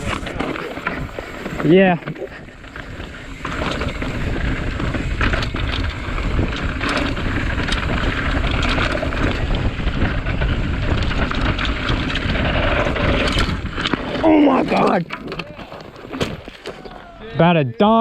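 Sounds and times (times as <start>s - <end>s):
bike clicks and rattles: 0.0s - 17.2s
tyres rumbling on dirt: 0.0s - 18.0s
wind buffeting microphone: 0.0s - 18.0s.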